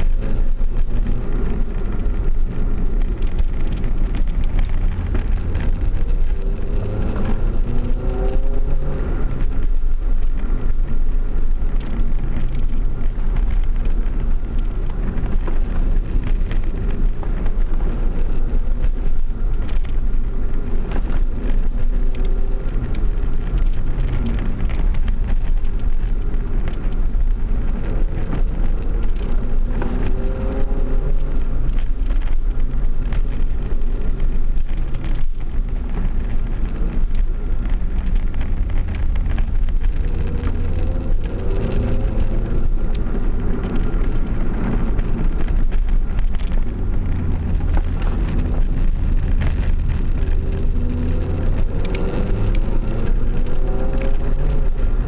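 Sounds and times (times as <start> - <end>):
car engine accelerating: 0.0 - 55.0
road rumble inside car: 0.0 - 55.0.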